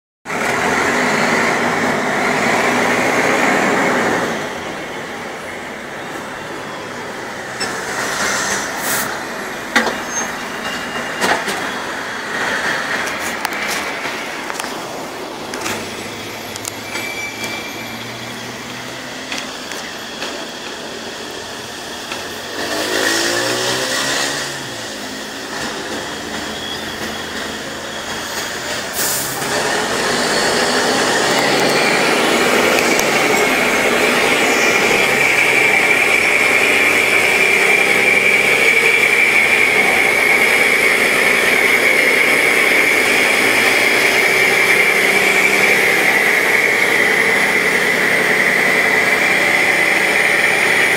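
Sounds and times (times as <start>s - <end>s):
bus engine rough rumble: 0.2s - 50.9s
high whine: 0.3s - 50.9s.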